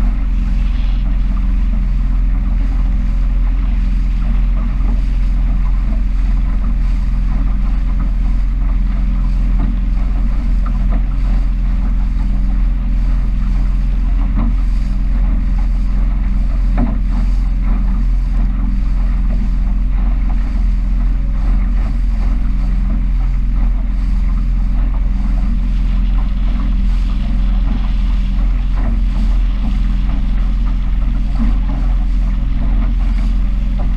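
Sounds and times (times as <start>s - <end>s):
boat engine droning: 0.0s - 33.9s
water rushing past hull: 0.0s - 33.9s
wind noise on microphone: 0.0s - 33.9s.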